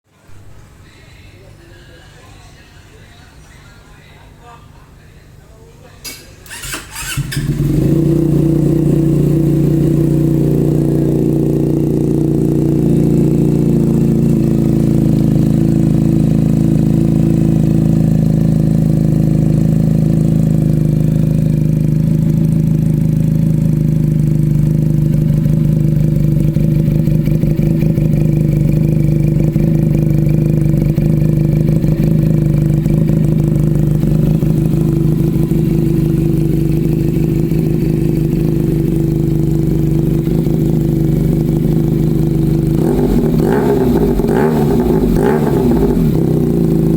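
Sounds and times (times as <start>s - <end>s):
motorcycle engine cranking and idling: 6.0s - 46.9s.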